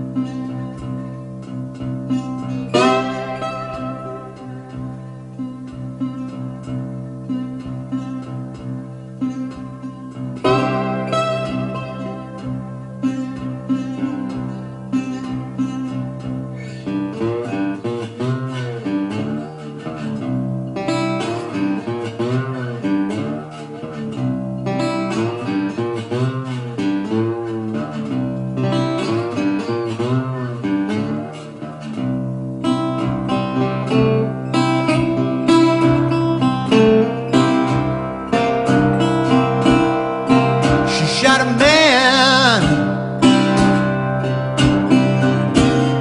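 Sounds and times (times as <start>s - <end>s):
guitars with bending notes: 0.0s - 46.0s.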